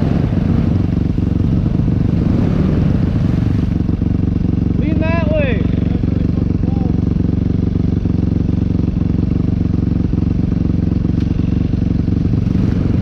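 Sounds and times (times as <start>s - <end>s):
quad engine running under load: 0.0s - 13.0s.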